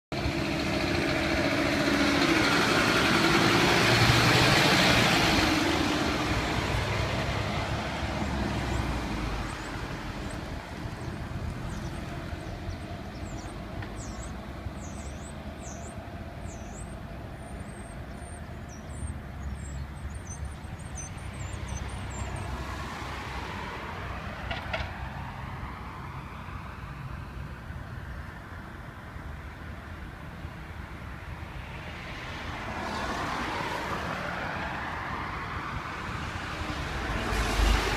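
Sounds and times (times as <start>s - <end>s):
fire engine passing: 0.1s - 37.9s
street traffic hum: 0.1s - 37.9s.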